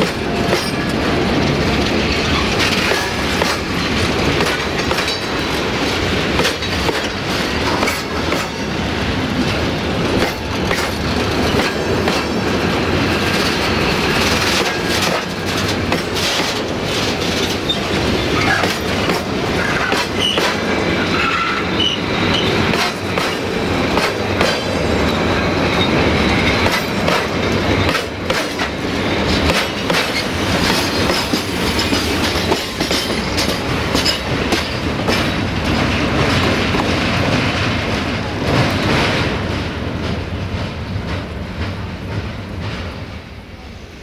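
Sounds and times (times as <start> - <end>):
train wheels clacking over rail joints: 0.0 - 43.3.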